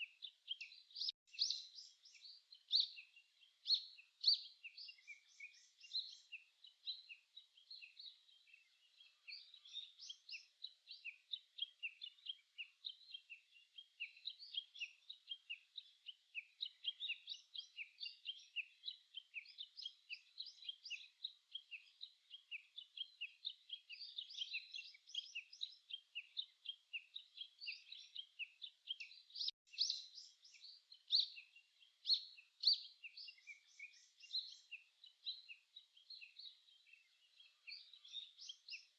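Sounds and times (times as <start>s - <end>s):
wild birds singing and chirping: 0.0s - 38.9s.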